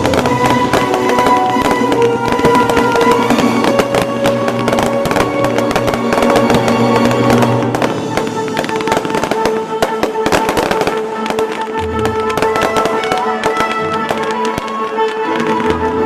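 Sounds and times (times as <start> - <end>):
dense rapid crackling: 0.0 - 16.0
music with long held notes: 0.0 - 16.0.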